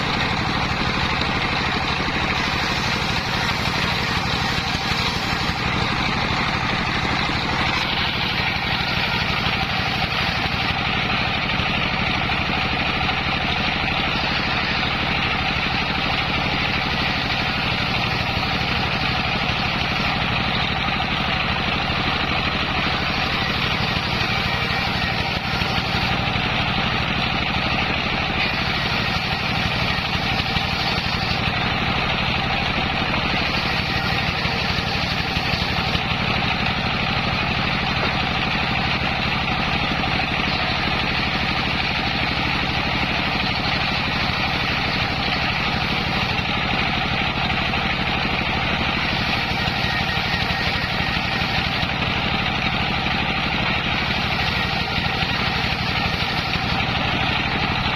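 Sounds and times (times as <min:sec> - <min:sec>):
circular saw engine running: 0:00.0 - 0:57.9.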